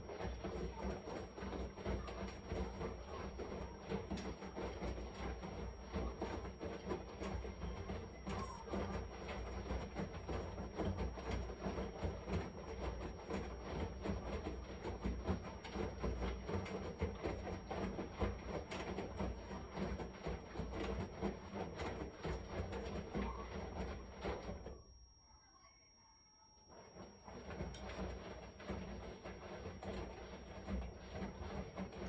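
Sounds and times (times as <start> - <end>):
washing machine churning: 0.0 - 25.4, 26.4 - 32.0.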